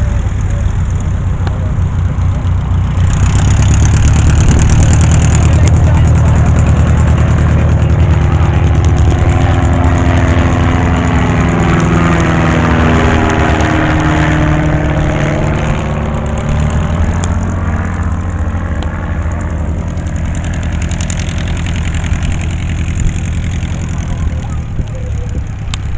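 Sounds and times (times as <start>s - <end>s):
propeller plane engine drone: 0.0s - 25.9s.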